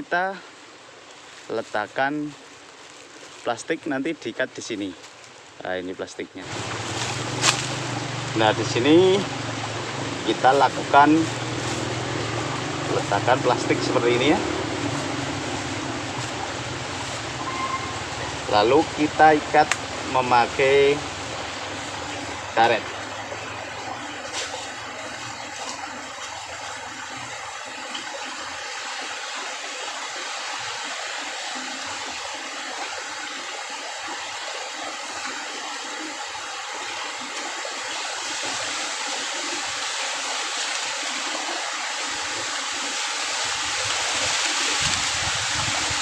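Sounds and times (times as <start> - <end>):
running water rushing: 0.0 - 46.0.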